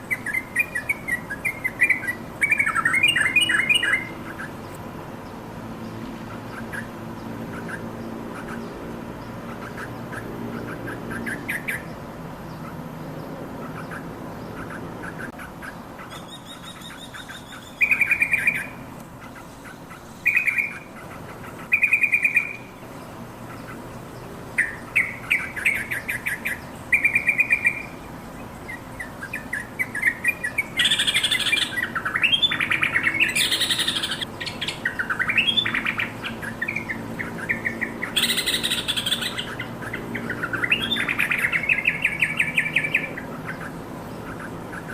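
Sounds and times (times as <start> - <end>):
bird chattering and singing: 0.0 - 44.9.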